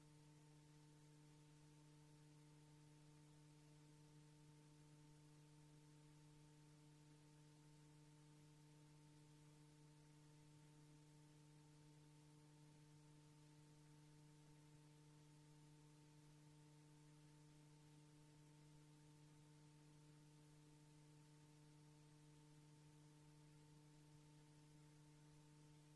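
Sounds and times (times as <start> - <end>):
faint electrical hum: 0.0 - 25.9.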